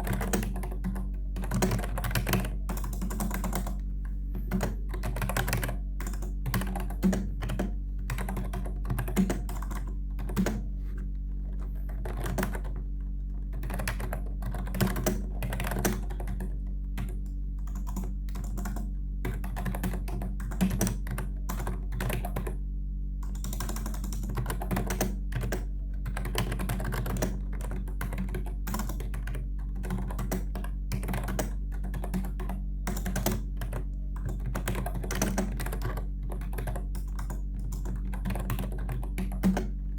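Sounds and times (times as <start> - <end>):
keyboard typing: 0.0 - 3.8, 4.4 - 10.7, 11.6 - 12.8, 13.4 - 22.6, 23.2 - 39.8
steady low hum: 0.0 - 39.9.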